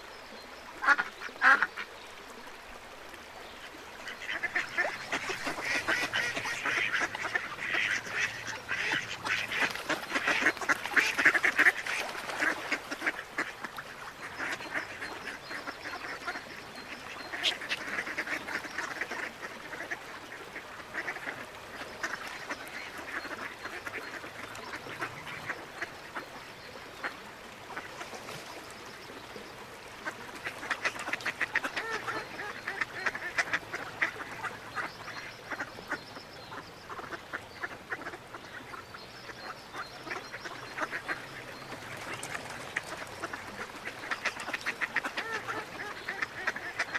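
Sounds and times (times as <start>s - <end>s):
ducks quacking: 0.8s - 1.8s, 4.0s - 26.3s, 30.0s - 46.9s.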